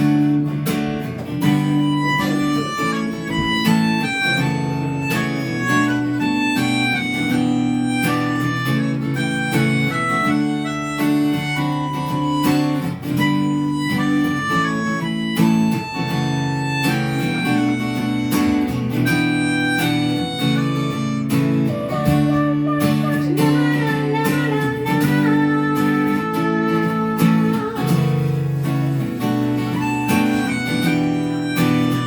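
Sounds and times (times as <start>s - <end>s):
acoustic guitar: 0.0s - 32.0s
harmonica chords and melody: 0.0s - 32.0s.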